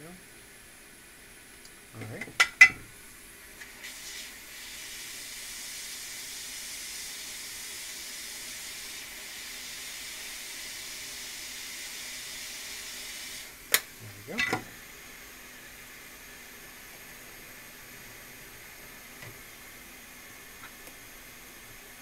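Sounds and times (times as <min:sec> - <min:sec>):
hot air station hissing: 0:00.0 - 0:22.0.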